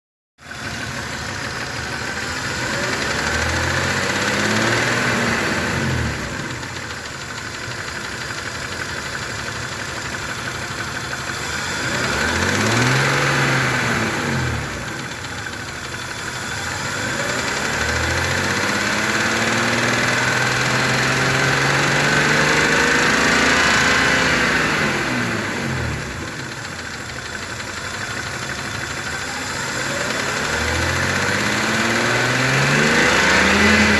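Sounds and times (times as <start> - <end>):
car engine idling and revving: 0.4 - 33.9
engine knock: 0.4 - 33.9.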